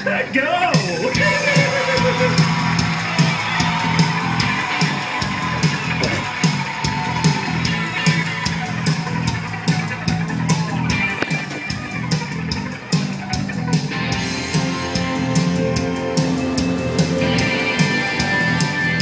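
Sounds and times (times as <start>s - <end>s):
upbeat song with drum beat: 0.5s - 19.0s.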